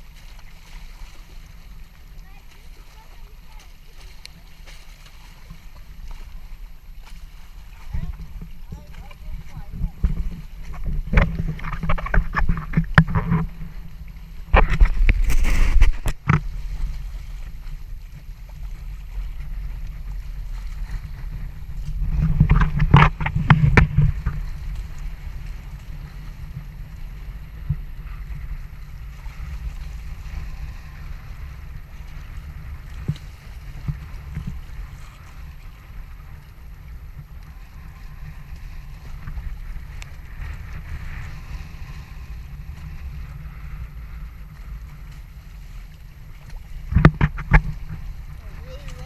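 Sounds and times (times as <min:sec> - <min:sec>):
water rushing along boat hulls: 0:00.0 - 0:49.0
wind buffeting microphone: 0:00.0 - 0:49.0.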